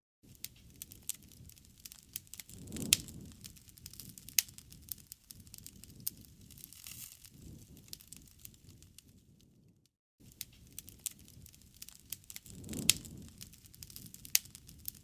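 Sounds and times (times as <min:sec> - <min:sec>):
bonfire crackling and popping: 0:00.3 - 0:15.0
low rumble of flame: 0:00.3 - 0:15.0.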